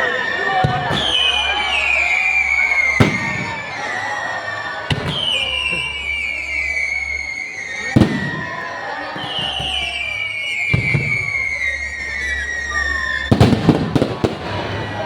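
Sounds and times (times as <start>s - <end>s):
fireworks whistling down: 0.0s - 15.0s
firework bangs: 0.4s - 15.0s.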